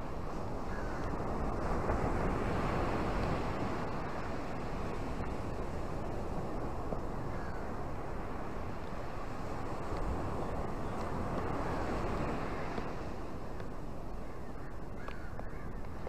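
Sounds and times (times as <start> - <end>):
ocean surf breaking on rocks: 0.0 - 14.1
wind rumble on microphone: 0.0 - 16.0.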